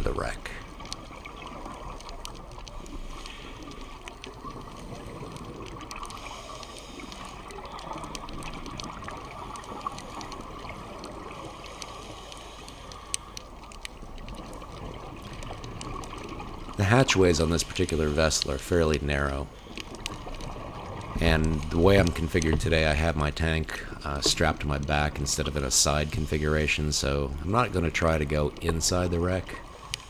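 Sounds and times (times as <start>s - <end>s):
underwater water noise: 0.0s - 30.0s
faint clicks: 0.1s - 30.0s.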